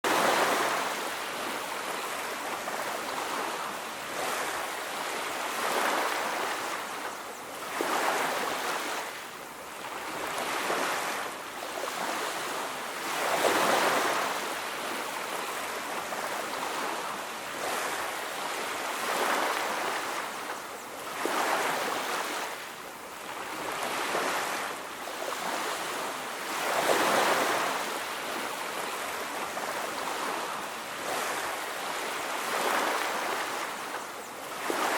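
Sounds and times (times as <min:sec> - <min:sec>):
sea waves breaking on beach: 0:00.1 - 0:34.9.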